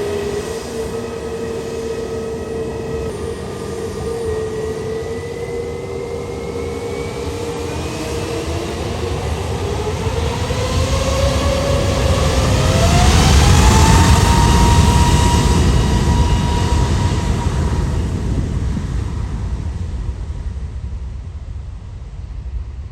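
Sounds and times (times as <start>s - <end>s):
jet engines spooling up: 0.0s - 20.9s.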